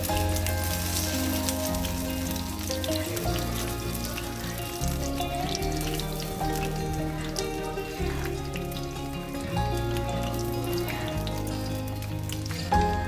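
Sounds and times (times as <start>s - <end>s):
background music with bass notes: 0.0s - 13.0s
food sizzling in a hot pan: 0.0s - 13.0s.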